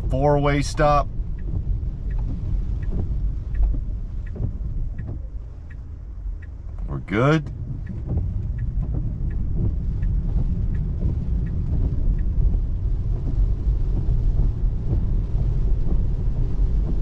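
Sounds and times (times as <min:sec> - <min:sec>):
faint light ticking: 0:00.0 - 0:17.0
road rumble inside car: 0:00.0 - 0:17.0.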